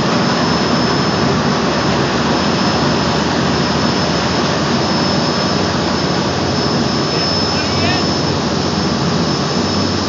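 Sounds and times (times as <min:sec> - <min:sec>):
boat engine running hard: 0:00.0 - 0:10.0
churning prop wash: 0:00.0 - 0:10.0
thin high whine: 0:00.0 - 0:10.0.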